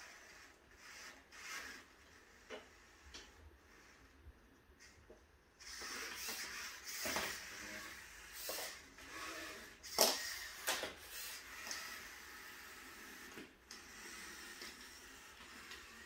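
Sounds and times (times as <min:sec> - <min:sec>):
robot motors whirring: 0:00.0 - 0:04.2, 0:05.6 - 0:16.0.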